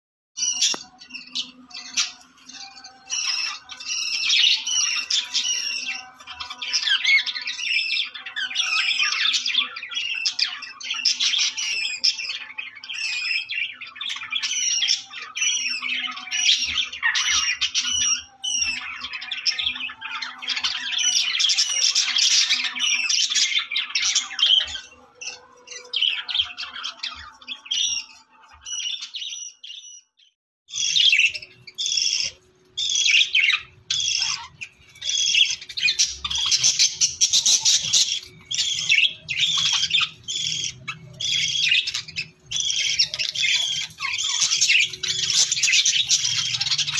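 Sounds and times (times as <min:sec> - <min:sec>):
budgerigars chattering: 0:00.4 - 0:29.6, 0:30.7 - 0:46.9.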